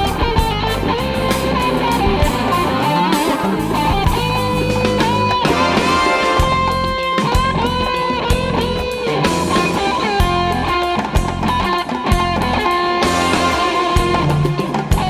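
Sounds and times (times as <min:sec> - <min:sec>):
bass guitar: 0:00.0 - 0:15.0
drum kit steady beat: 0:00.0 - 0:15.0
electric guitar melody: 0:00.0 - 0:15.0.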